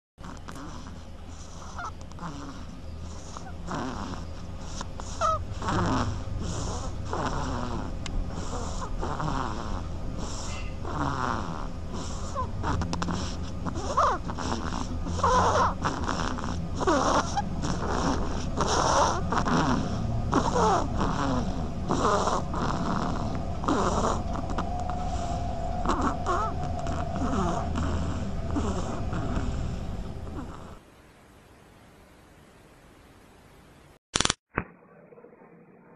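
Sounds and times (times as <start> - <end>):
animal raspy hissing snores: 0.2 - 30.8.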